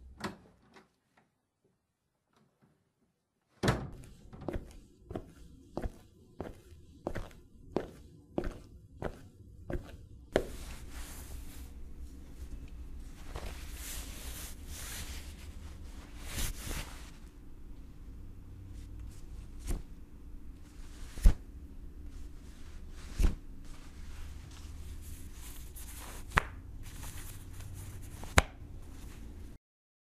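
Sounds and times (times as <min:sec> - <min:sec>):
low steady rumble: 0:04.6 - 0:29.6.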